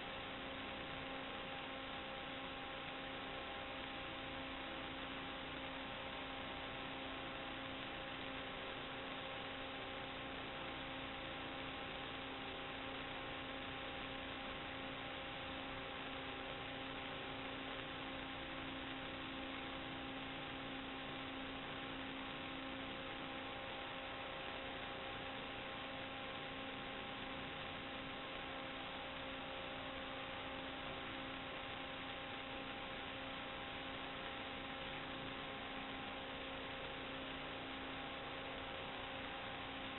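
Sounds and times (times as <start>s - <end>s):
electrical hum: 0.0s - 39.9s
static hiss: 0.0s - 39.9s.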